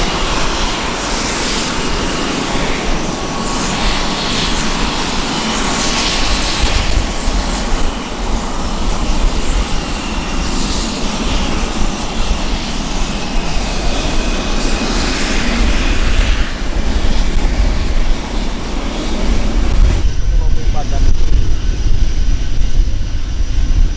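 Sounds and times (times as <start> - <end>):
fighter jet engine roar: 0.0 - 23.9.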